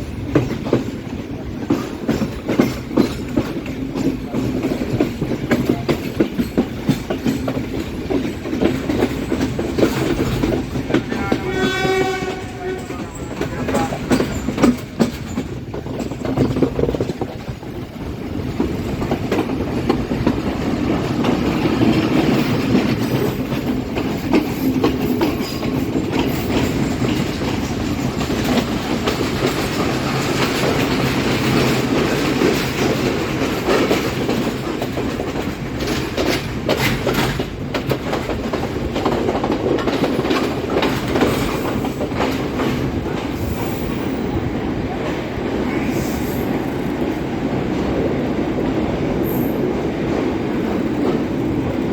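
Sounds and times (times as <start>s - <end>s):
diesel locomotive rumble: 0.0s - 51.9s
train wheels clattering over rails: 0.0s - 51.9s.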